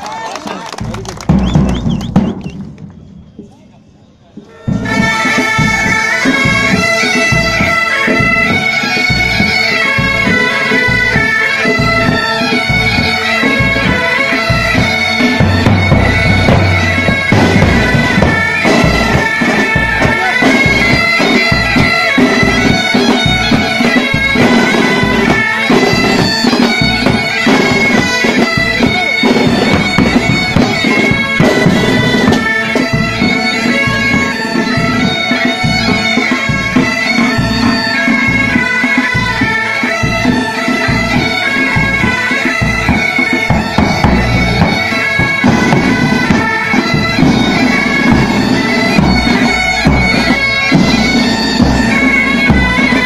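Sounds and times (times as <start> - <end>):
snare and bass drums beating: 1.2 - 2.9, 4.8 - 53.0
bagpipes playing a tune: 4.4 - 53.0.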